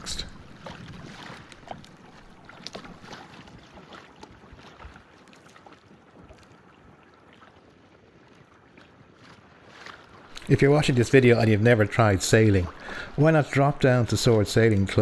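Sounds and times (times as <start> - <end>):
small splashes and ticks: 0.0 - 15.0
water lapping: 0.0 - 15.0.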